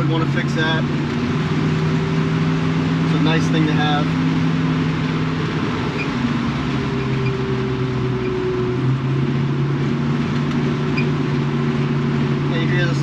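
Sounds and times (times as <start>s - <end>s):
car engine running: 0.0s - 13.0s
tyre and road noise: 0.0s - 13.0s.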